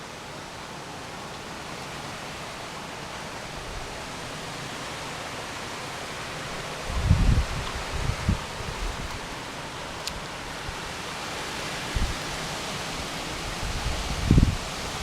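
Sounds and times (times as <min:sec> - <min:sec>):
wind rustling tree leaves: 0:00.0 - 0:15.0.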